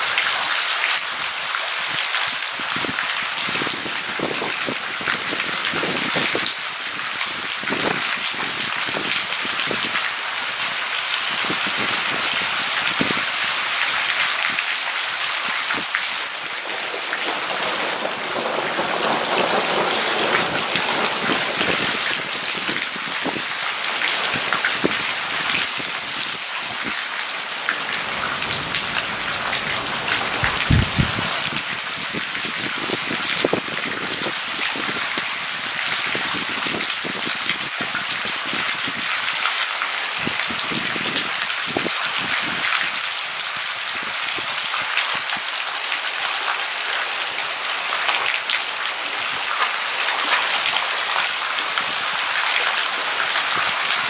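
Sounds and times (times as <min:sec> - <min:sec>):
rain falling: 0:00.0 - 0:54.0
raindrops ticking close by: 0:00.0 - 0:54.0.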